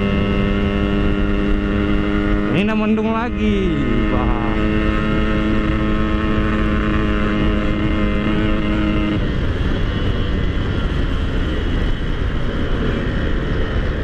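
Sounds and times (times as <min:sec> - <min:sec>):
motorcycle engine: 0:00.0 - 0:14.0
wind and road rush: 0:00.0 - 0:14.0.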